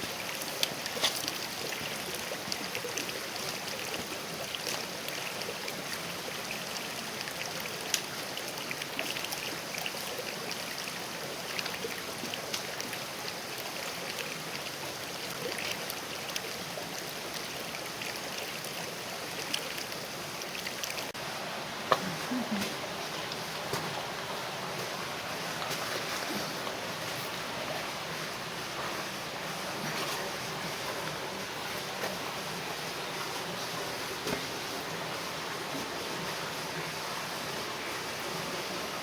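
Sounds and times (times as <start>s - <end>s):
creek babbling over rocks: 0.0s - 39.0s.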